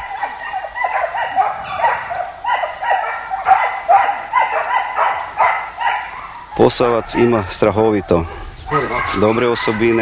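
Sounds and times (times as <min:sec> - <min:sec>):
hounds baying: 0:00.0 - 0:10.0.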